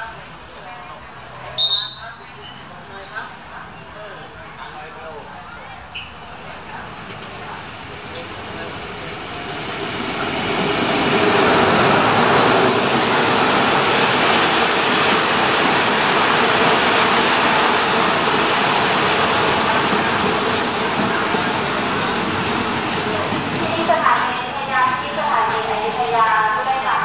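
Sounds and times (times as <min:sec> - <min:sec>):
diesel train passing: 0:00.1 - 0:27.0.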